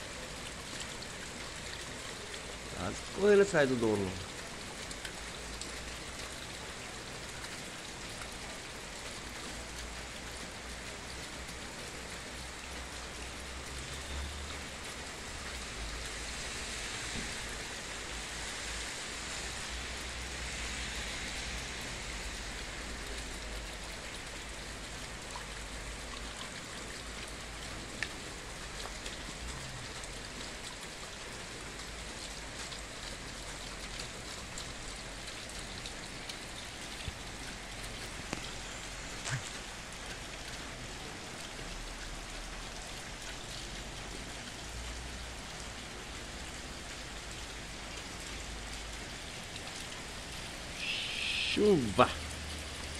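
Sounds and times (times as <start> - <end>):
rain falling on pavement: 0.0 - 52.9.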